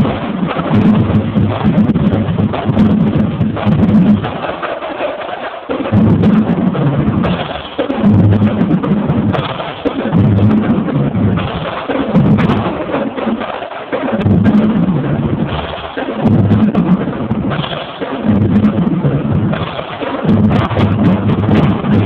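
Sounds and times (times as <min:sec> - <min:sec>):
tuned bass drums: 0:00.0 - 0:04.7, 0:05.7 - 0:22.0
sharp drum strokes: 0:00.0 - 0:22.0.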